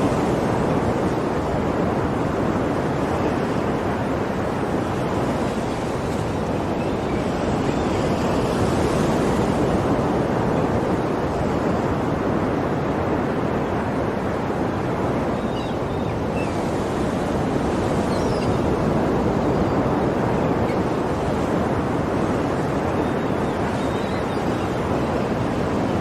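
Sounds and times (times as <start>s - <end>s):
ocean waves breaking: 0.0s - 26.0s.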